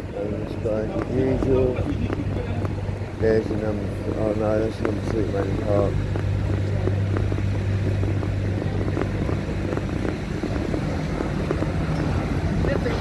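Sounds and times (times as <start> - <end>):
footsteps on paving: 0.0 - 13.0
vehicle engine idling: 0.0 - 13.0.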